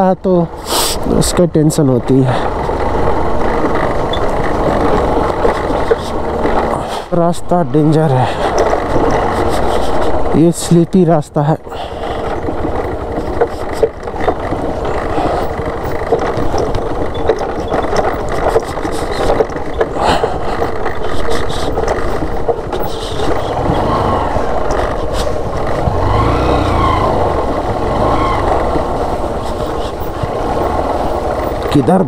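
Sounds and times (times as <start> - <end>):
motorcycle engine running: 0.0 - 32.0
knocks and rattles: 1.2 - 32.0.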